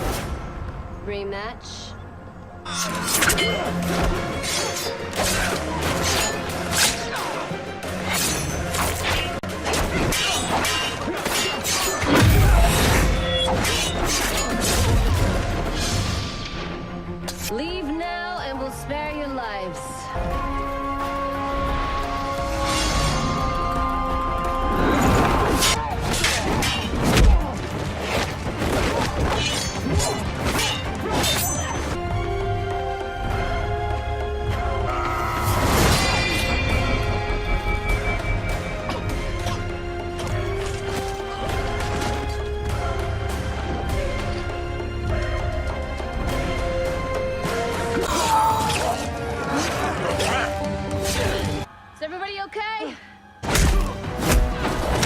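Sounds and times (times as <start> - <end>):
dramatic score music: 0.0 - 55.0.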